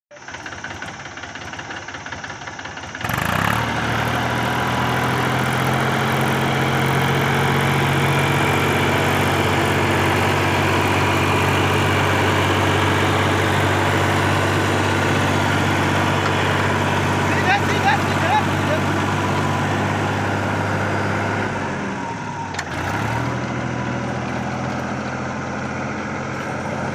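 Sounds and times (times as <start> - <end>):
tractor diesel engine running: 0.1 - 26.9.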